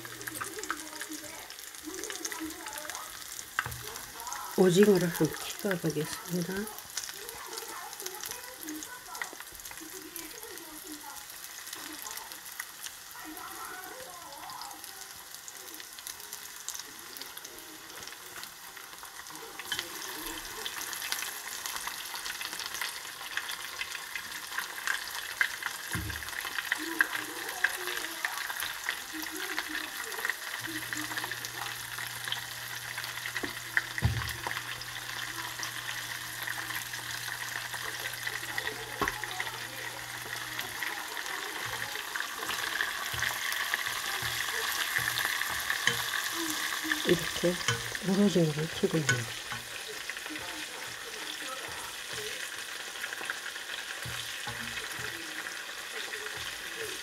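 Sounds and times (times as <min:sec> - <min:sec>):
fritters sizzling in hot oil: 0:00.0 - 0:57.0.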